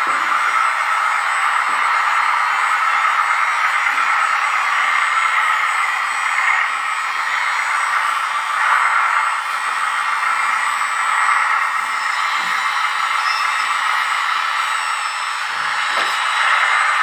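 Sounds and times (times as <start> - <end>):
electric pump and motor whirring: 0.0 - 17.0.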